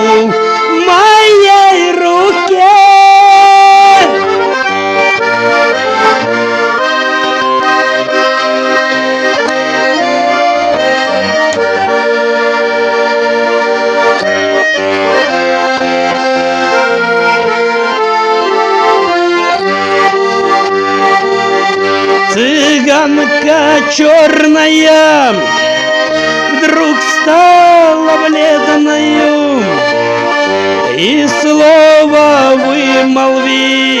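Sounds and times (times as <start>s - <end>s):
accordion playing: 0.0s - 34.0s.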